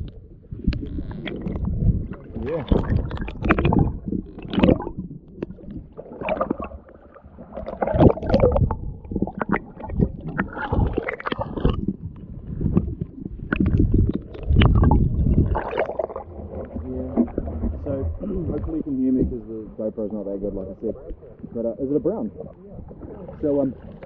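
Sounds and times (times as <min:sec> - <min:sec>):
underwater sloshing and gurgling: 0:00.0 - 0:24.0.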